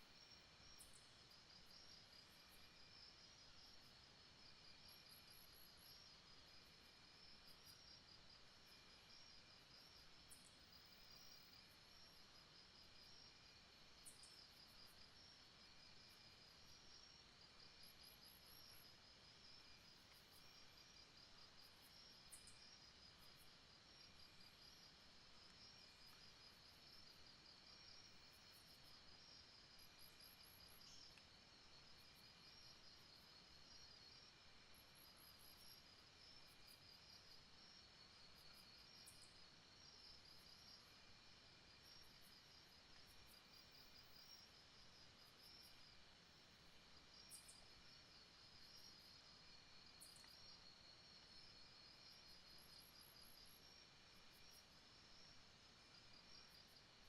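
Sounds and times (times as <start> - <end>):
insects trilling: 0.0 - 54.6.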